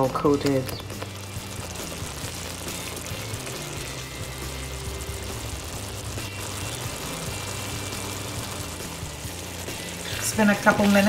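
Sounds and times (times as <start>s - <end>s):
background music: 0.0s - 11.0s
sauce bubbling in a pan: 0.0s - 11.0s.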